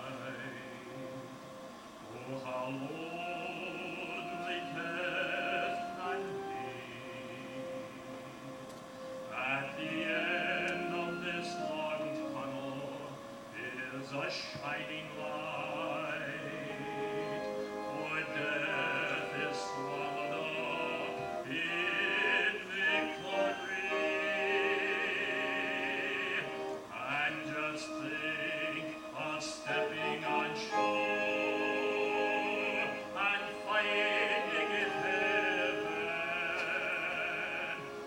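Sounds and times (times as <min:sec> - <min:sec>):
operatic singing with vibrato: 0:00.0 - 0:38.0
sustained accompaniment: 0:00.0 - 0:38.0.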